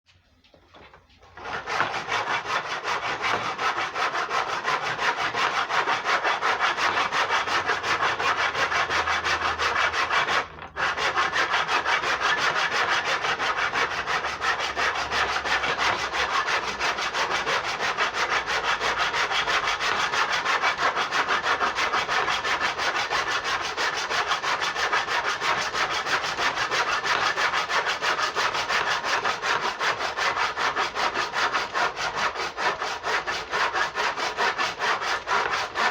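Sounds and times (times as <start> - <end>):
hand saw cutting: 1.2 - 35.9.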